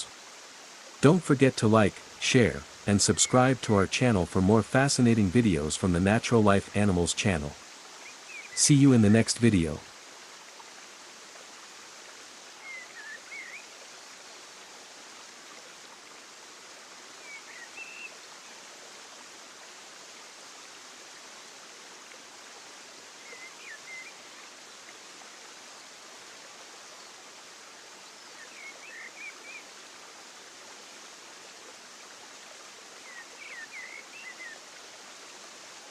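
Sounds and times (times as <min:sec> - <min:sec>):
stream-like rushing: 0:00.0 - 0:35.9.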